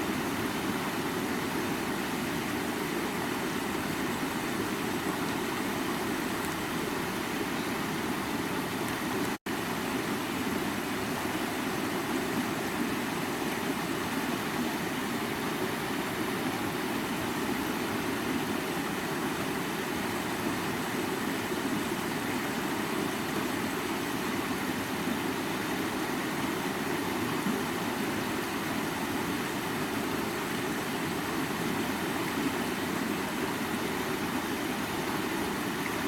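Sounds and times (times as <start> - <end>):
stream water flowing: 0.0 - 36.0.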